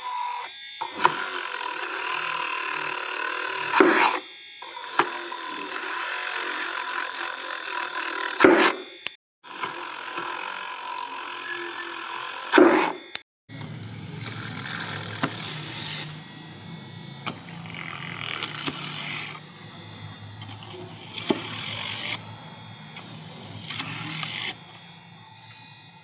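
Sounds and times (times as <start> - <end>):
small drill motor humming: 0.0 - 26.0.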